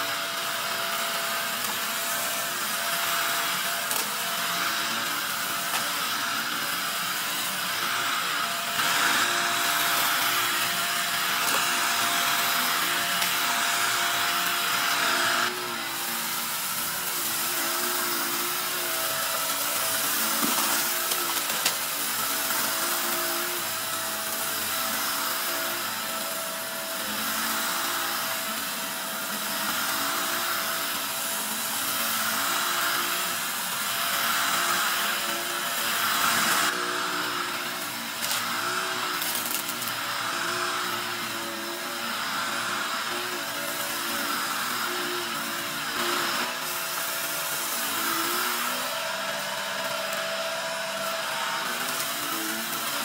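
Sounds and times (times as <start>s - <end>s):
vacuum cleaner running over carpet: 0.0s - 53.0s.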